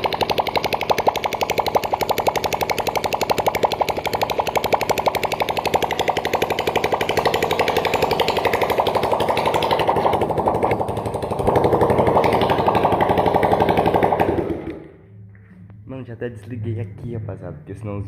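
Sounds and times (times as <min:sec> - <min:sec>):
motorcycle engine popping: 0:00.0 - 0:15.0.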